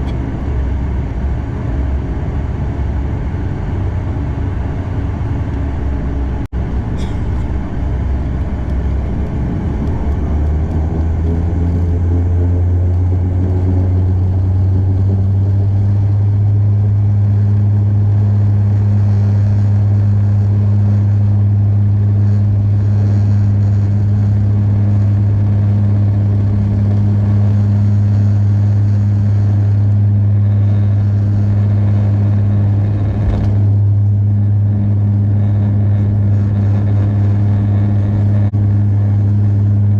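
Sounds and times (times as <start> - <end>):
propeller engine drone: 0.0 - 39.9.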